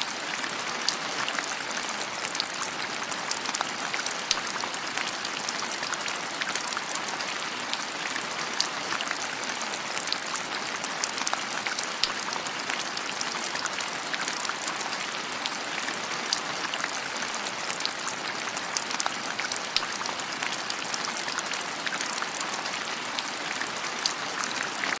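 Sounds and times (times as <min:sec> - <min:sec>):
rain pattering: 0:00.0 - 0:25.0.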